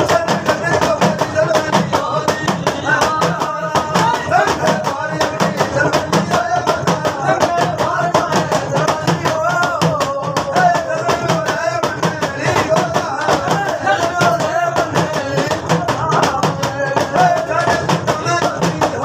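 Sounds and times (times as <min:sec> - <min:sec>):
fast percussion beat: 0:00.0 - 0:19.0
person singing devotional song: 0:00.0 - 0:19.0.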